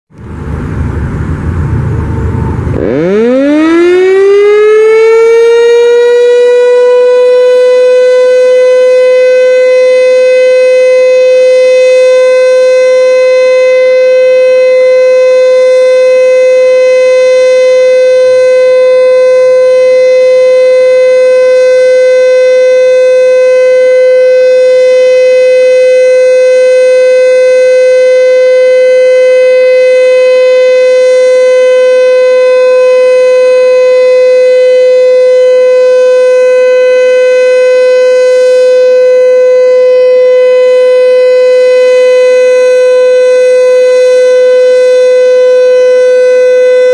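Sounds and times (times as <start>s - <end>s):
warning siren winding up: 2.2s - 46.9s.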